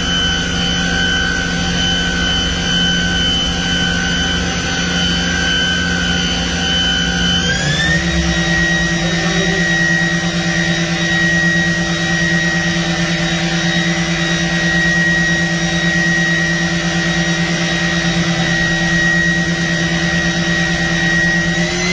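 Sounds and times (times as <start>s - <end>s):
machine hum: 0.0s - 21.9s
machine motor whine: 0.0s - 21.9s.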